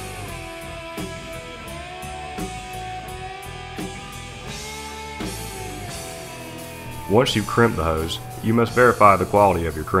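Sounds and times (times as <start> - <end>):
electric guitar rock music: 0.0 - 10.0.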